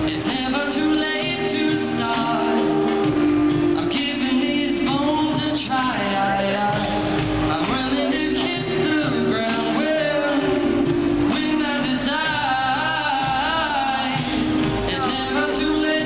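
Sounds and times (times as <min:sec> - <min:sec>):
acoustic guitar: 0:00.0 - 0:16.0
man singing: 0:00.0 - 0:16.0.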